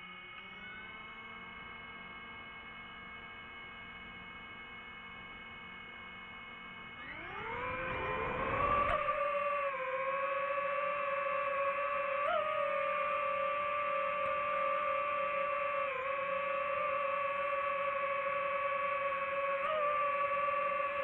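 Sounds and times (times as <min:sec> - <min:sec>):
model airplane motor whining: 0:00.0 - 0:21.0.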